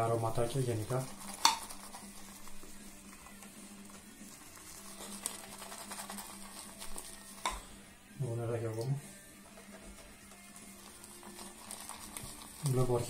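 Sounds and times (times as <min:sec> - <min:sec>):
shaving brush scratching on soap: 0:00.0 - 0:07.4, 0:09.4 - 0:13.0.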